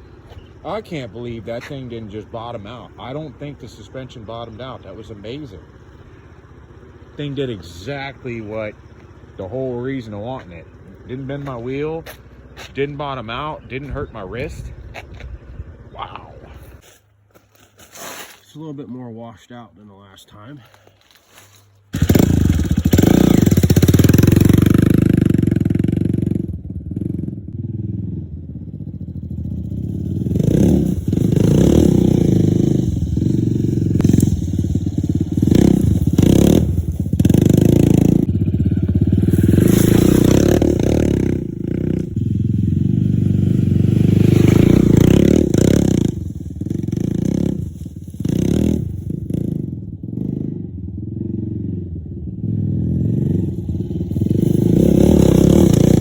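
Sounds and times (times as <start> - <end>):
motorcycle engine under load: 0.0 - 56.0.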